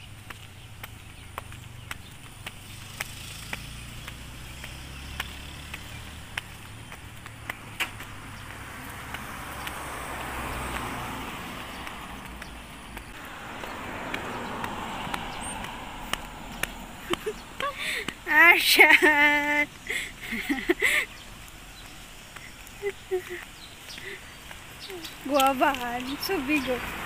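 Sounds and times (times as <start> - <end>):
cars passing: 0.0 - 27.0
footsteps on pavement: 0.0 - 27.0.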